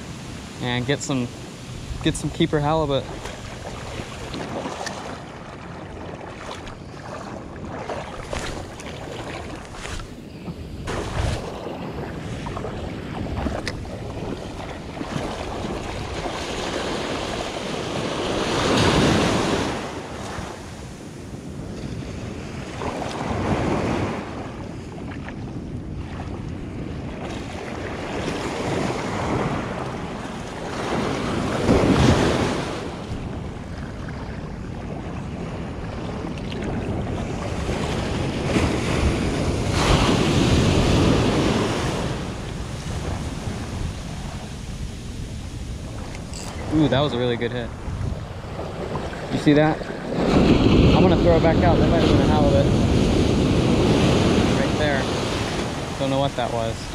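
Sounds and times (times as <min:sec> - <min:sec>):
surf breaking on sandy beach: 0:00.0 - 0:21.2, 0:26.9 - 0:33.5, 0:35.5 - 0:56.9.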